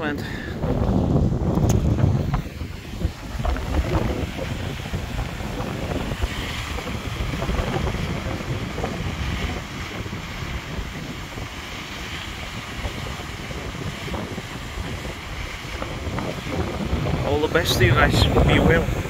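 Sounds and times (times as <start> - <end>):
wind buffeting microphone: 0.0 - 19.0
waterfall rushing: 1.8 - 19.0.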